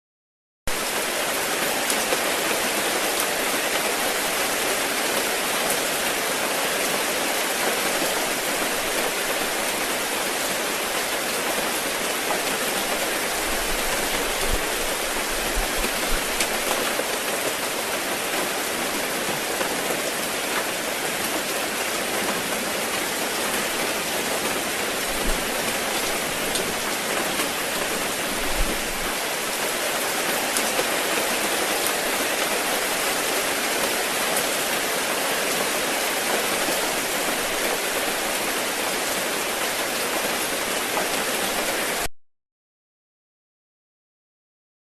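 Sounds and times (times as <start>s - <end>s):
rain pattering on leaves: 0.7s - 42.1s.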